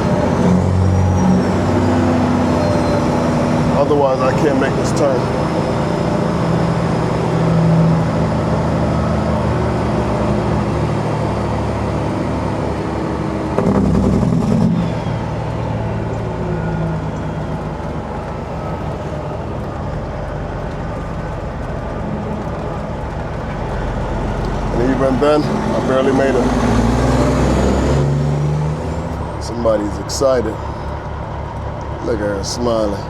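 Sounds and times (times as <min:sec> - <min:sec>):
truck diesel engine running: 0:00.0 - 0:33.0.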